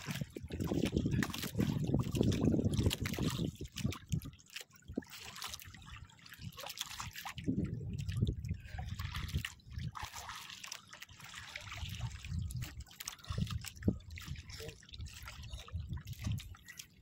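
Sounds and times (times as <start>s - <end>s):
small splashes: 0.0s - 17.0s
water lapping against boat hull: 0.0s - 17.0s.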